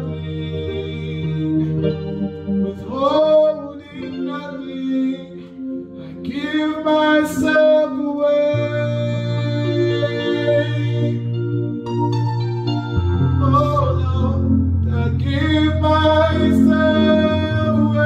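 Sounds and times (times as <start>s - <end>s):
man singing: 0.0s - 11.4s, 13.3s - 18.0s
electronic keyboard chords: 0.0s - 18.0s.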